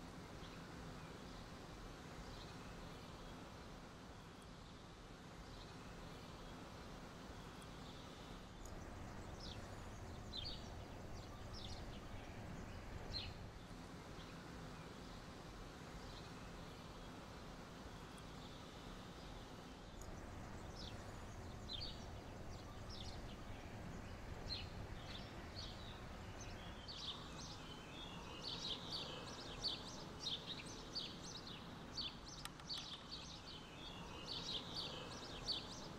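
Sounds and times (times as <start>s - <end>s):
faint background noise: 0.0s - 35.9s
small birds chirping: 0.0s - 35.9s.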